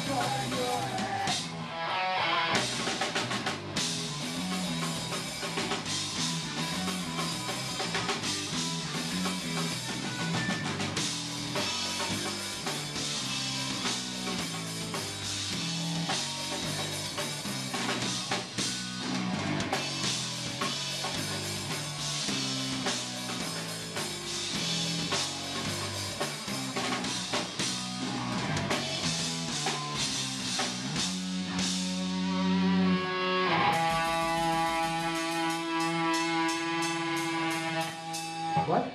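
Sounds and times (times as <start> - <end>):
fast drum kit: 0.0 - 1.6, 2.6 - 32.6, 33.2 - 38.9
loud electric guitars: 0.0 - 38.9.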